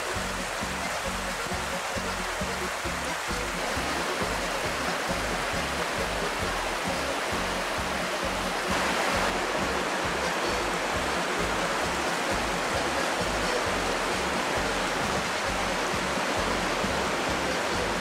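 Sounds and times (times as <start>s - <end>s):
faint music bass line: 0.0s - 18.0s
fast-flowing river rushing: 0.0s - 18.0s.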